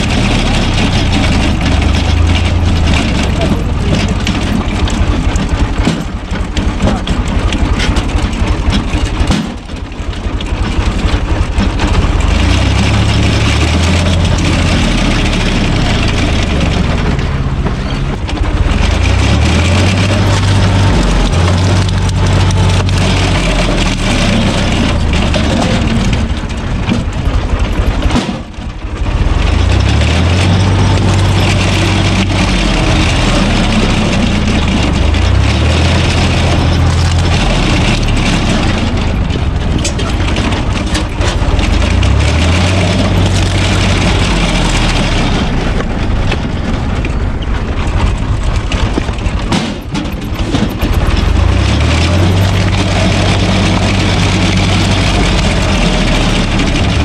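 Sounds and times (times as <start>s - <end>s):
log splitter splitting wood: 0.0s - 57.0s
tractor diesel engine running: 0.0s - 57.0s.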